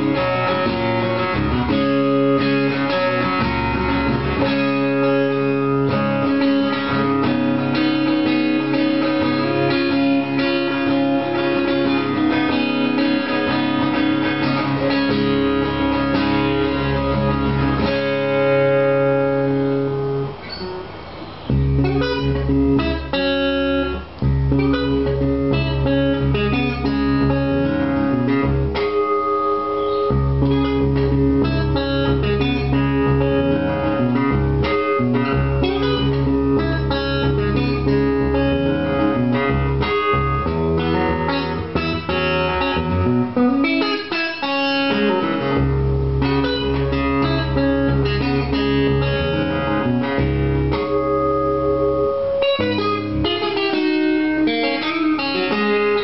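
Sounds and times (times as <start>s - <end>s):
fingerpicked acoustic guitar: 0.0s - 56.0s.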